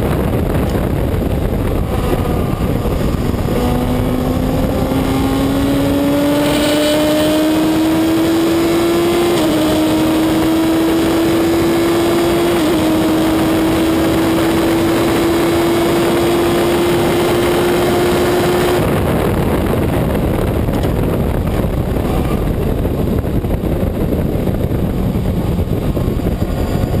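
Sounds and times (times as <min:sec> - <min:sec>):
race car engine at full throttle: 0:00.0 - 0:27.0
wind and rumble: 0:00.0 - 0:27.0.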